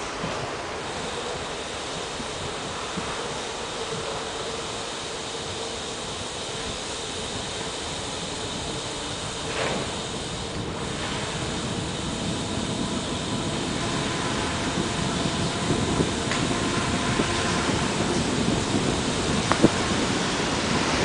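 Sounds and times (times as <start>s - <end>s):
bicycle tyre hiss on wet road: 0.0s - 21.0s
wind on microphone: 0.0s - 21.0s.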